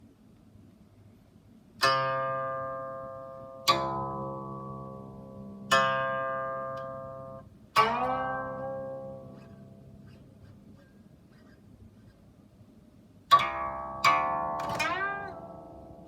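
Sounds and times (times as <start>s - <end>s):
plucked zither notes: 1.8s - 12.2s, 13.3s - 16.0s.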